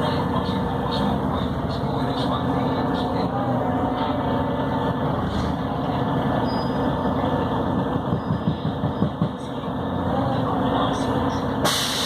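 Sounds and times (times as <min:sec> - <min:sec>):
bus diesel engine running: 0:00.0 - 0:12.0
road noise: 0:00.0 - 0:12.0.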